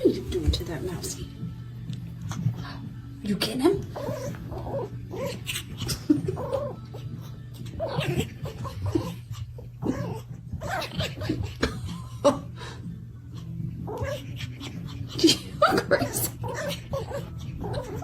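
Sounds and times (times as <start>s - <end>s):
puppies play vocalizing: 1.3s - 3.2s, 3.8s - 12.0s, 13.1s - 18.0s.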